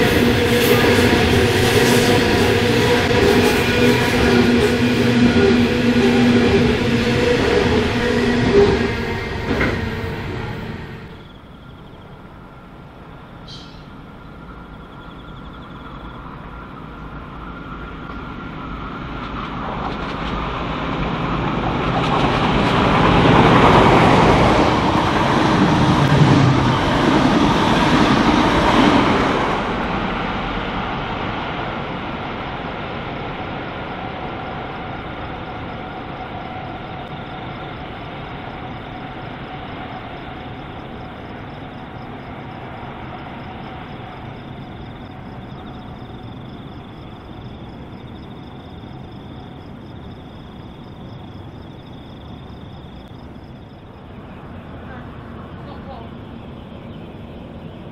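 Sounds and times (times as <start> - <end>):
passenger train passing at speed: 0.0 - 57.9.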